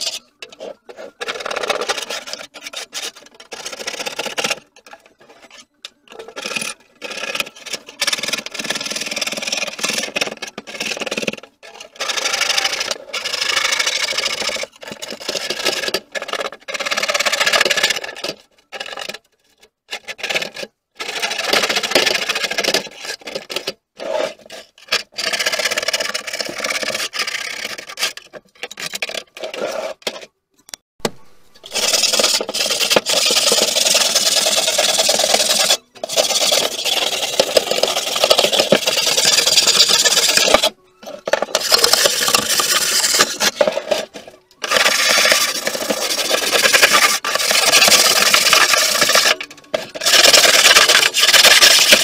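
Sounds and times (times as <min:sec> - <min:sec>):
brush scrubbing sheet metal: 0:00.0 - 0:19.1, 0:20.0 - 0:30.2, 0:31.5 - 0:52.0.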